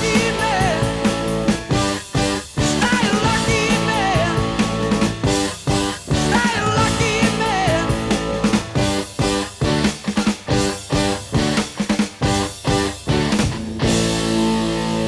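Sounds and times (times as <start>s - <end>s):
bass guitar: 0.0s - 15.0s
drums: 0.0s - 15.0s
electric guitar: 0.0s - 15.0s
keyboards: 0.0s - 15.0s.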